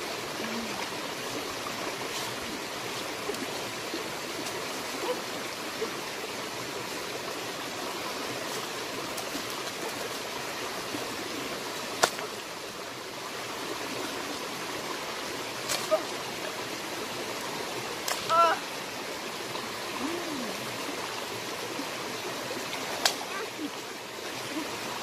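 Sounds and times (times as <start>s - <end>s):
stream flowing: 0.0s - 25.0s.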